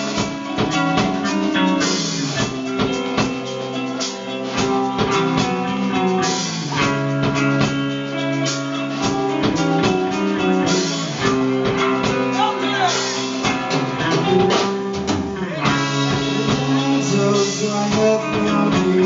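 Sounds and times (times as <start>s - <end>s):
distorted electric guitars: 0.0s - 19.0s
drum kit beating: 0.0s - 19.0s.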